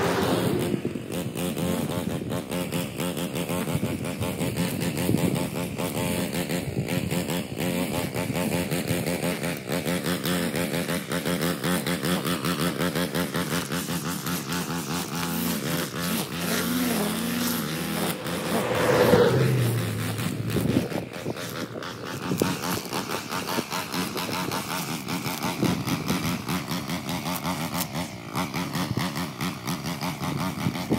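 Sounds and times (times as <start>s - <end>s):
string trimmer engine cutting grass: 0.0s - 30.9s.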